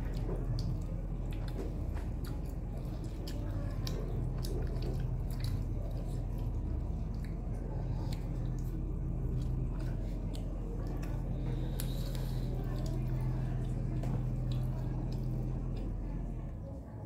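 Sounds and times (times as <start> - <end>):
chewing with mouth smacks: 0.0 - 17.0
steady low hum: 0.0 - 17.0.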